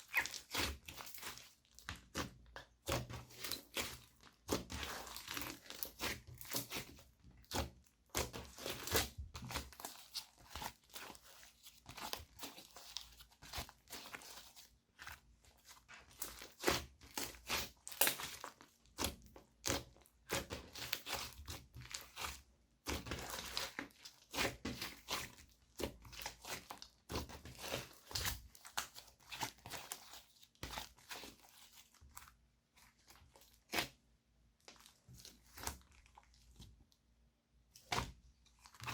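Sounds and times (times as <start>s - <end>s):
slime squished by hand: 0.0s - 34.0s.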